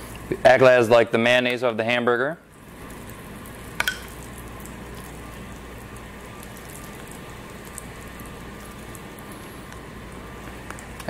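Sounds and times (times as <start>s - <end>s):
griddle sizzling: 0.0s - 11.0s.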